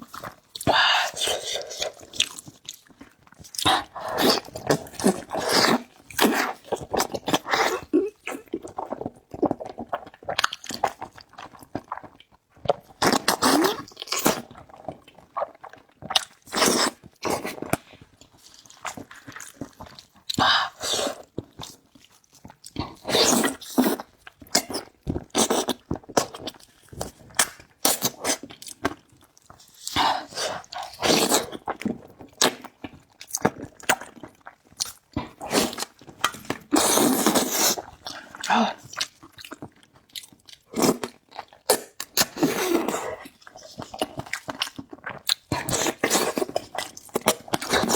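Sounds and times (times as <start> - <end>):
chewing and biting: 0.0 - 47.9.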